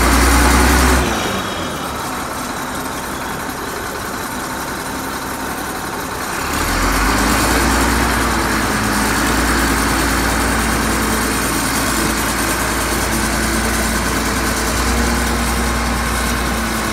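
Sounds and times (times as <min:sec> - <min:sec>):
bulldozer diesel engine: 0:00.0 - 0:16.9.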